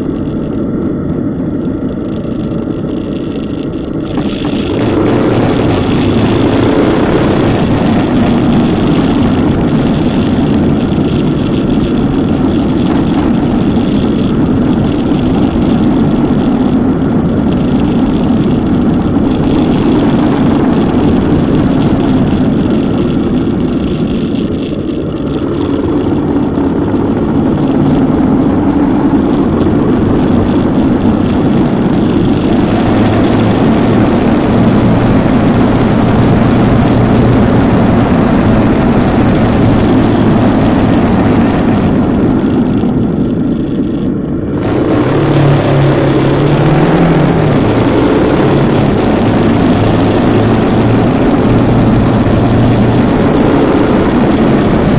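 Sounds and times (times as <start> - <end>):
motorcycle engine: 0.0 - 54.9
road noise: 0.0 - 54.9
wind noise: 0.0 - 54.9.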